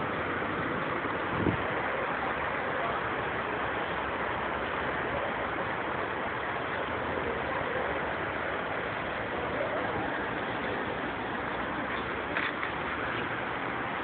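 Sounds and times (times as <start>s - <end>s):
steady rushing background noise: 0.0s - 14.0s.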